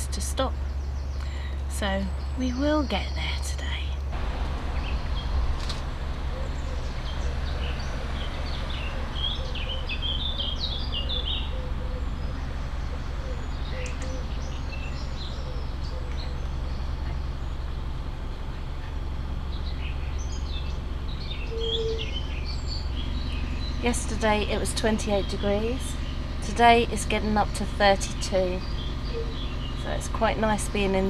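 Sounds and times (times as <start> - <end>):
birds chirping: 0.0 - 31.0
boat diesel engine droning: 0.0 - 31.0.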